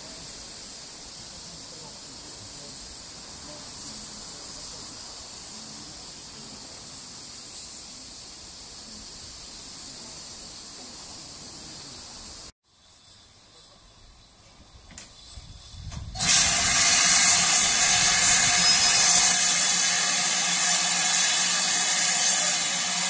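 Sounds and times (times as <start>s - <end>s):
steam hissing from locomotive: 0.0s - 12.6s, 15.4s - 23.0s.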